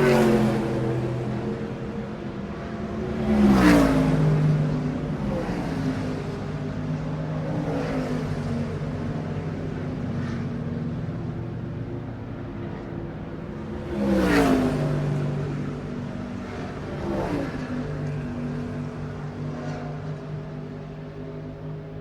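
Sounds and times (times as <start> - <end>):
drone of engines: 0.0 - 22.0
race car engines passing: 0.0 - 22.0.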